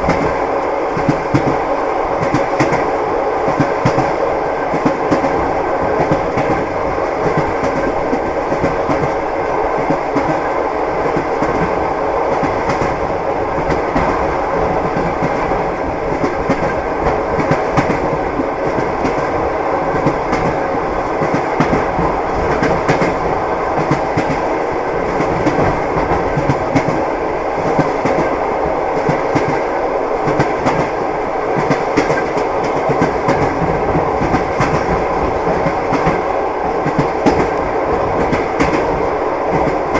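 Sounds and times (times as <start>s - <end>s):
train rumbling inside carriage: 0.0s - 39.9s
train wheels knocking on rails: 0.0s - 39.9s.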